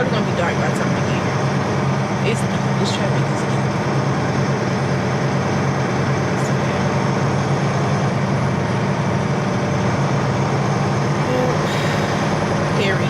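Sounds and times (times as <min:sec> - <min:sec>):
diesel truck engine running: 0:00.0 - 0:13.0
road and cab noise: 0:00.0 - 0:13.0.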